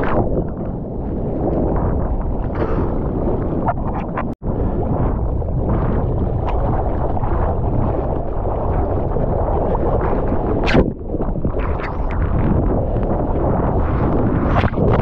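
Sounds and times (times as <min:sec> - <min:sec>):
ocean water washing: 0:00.0 - 0:15.0
wind on microphone: 0:00.0 - 0:15.0.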